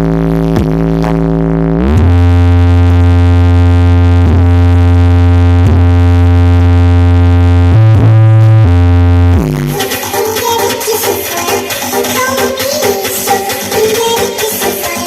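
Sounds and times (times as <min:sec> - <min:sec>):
deep synthesizer bass drone: 0:00.0 - 0:15.0.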